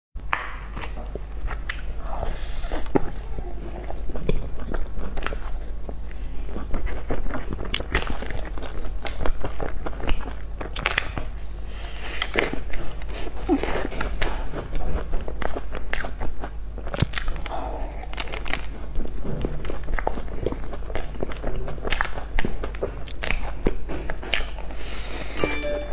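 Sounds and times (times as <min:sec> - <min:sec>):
crunchy chewing: 0:00.3 - 0:25.4.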